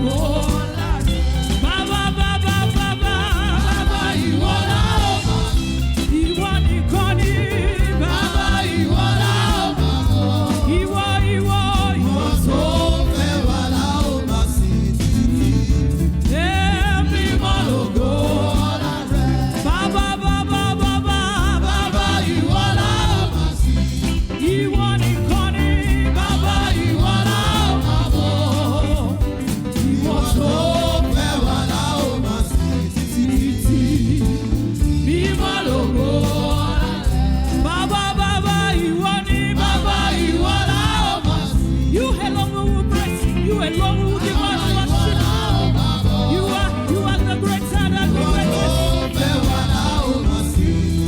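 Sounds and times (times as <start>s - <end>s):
choir singing: 0.0s - 51.0s
gospel music with heavy beat: 0.0s - 51.0s.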